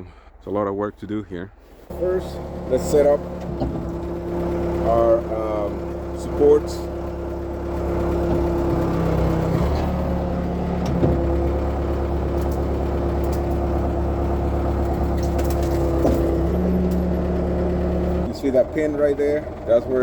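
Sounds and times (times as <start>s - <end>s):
diesel engine under hydraulic load: 1.8s - 20.0s.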